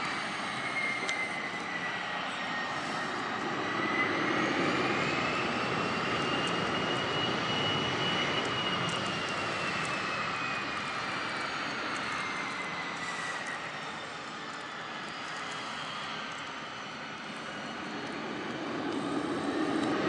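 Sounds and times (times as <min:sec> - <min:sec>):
high turbine whine: 0:00.0 - 0:20.0
jet engines running: 0:00.0 - 0:20.0.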